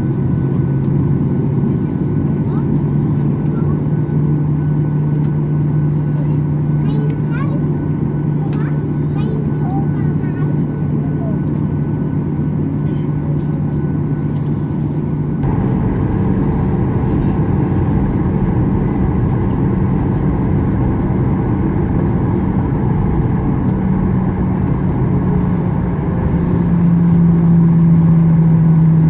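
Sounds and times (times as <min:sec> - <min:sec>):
jet engine cabin drone: 0:00.0 - 0:29.0.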